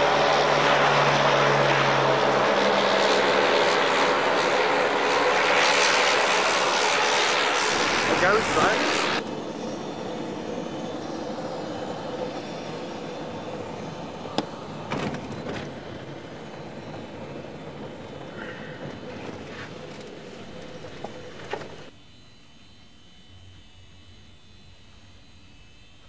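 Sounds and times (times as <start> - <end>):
aircraft engine hum: 0.0 - 22.0.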